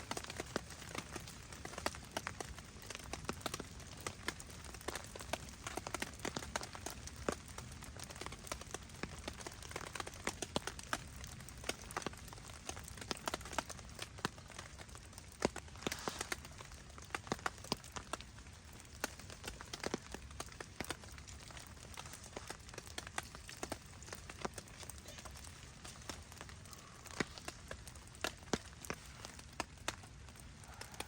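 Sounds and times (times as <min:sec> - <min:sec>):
sharp ticks and pops: 0:00.0 - 0:31.0
steady rain: 0:00.0 - 0:31.0.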